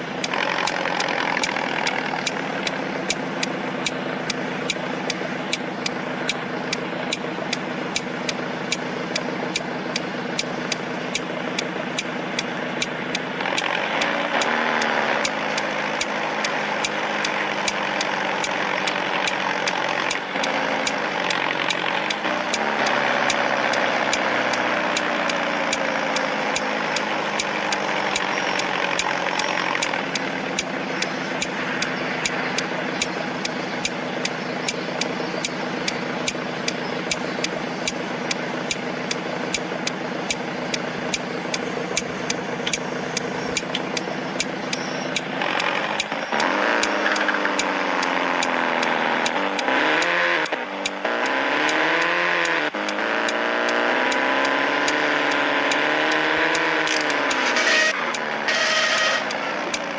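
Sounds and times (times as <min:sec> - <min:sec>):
car engine idling: 0:00.0 - 0:59.9
rapid engine ticking: 0:00.0 - 0:59.9
rasping engine snore: 0:00.0 - 0:59.9.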